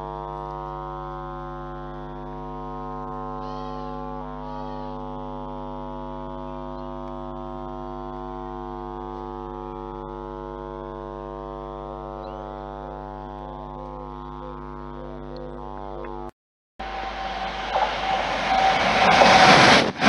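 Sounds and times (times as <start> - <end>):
electrical buzz: 0.0 - 20.0
low hum: 0.0 - 20.0.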